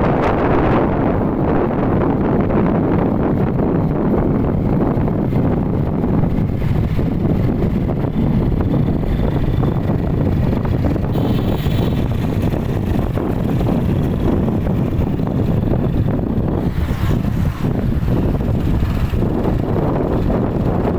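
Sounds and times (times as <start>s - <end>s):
road noise: 0.0s - 20.9s
wind buffeting microphone: 0.0s - 20.9s
motorbike engine: 1.8s - 20.9s.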